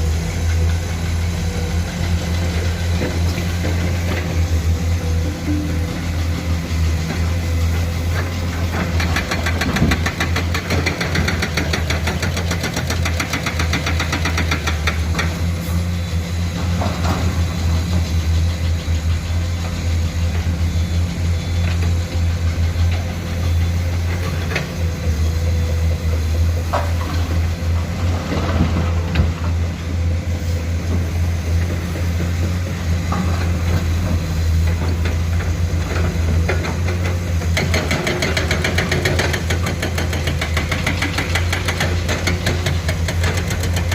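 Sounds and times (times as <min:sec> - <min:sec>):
excavator diesel engine knocking: 0:00.0 - 0:30.2, 0:30.8 - 0:43.9.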